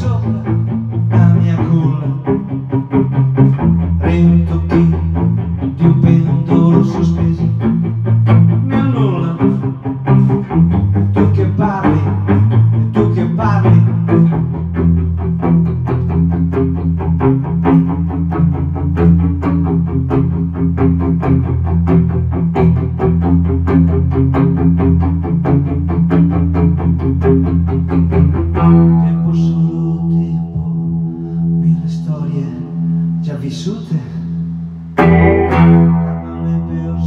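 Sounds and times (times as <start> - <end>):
guitar picking repeating notes: 0.0 - 37.0
sustained bass line: 0.0 - 37.0.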